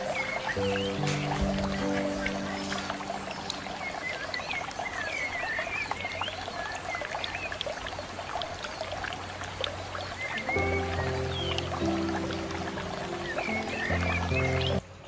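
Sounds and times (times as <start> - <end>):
aquarium filter water trickling: 0.0 - 14.8.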